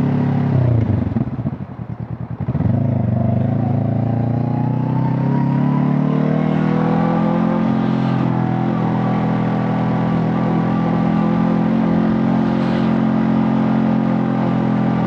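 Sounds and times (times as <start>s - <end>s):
motorcycle engine under throttle: 0.0s - 15.0s.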